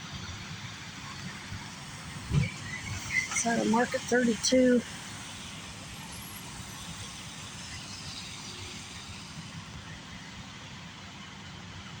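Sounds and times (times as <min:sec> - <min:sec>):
road noise: 0:00.5 - 0:11.2.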